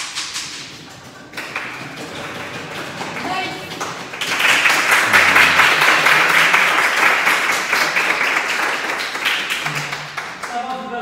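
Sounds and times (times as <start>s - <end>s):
people applauding: 1.1s - 11.0s.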